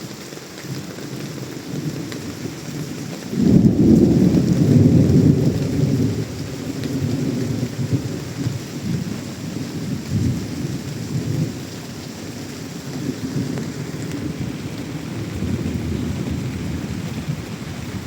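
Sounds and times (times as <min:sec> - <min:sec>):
rain falling: 0:00.0 - 0:18.0
rolling thunder rumble: 0:01.7 - 0:18.0.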